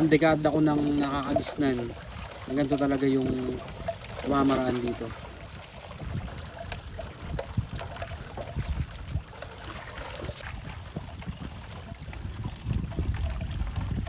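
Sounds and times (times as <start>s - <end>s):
water lapping against boat hull: 0.0s - 14.0s
wind rumble on microphone: 0.0s - 14.0s.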